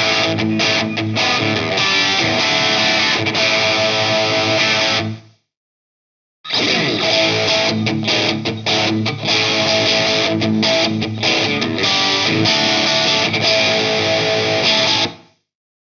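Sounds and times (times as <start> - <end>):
electric guitar chords and riffs: 0.0 - 5.4, 6.5 - 15.3.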